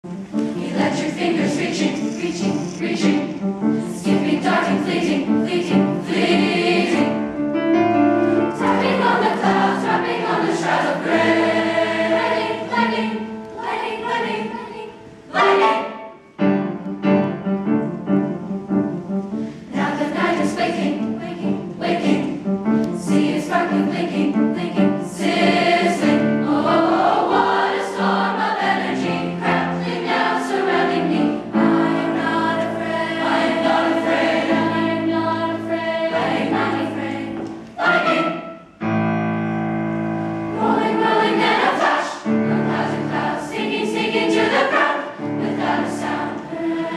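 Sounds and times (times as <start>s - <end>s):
choir singing in parts: 0.3s - 7.5s, 8.2s - 16.2s, 19.7s - 38.8s, 40.5s - 46.9s.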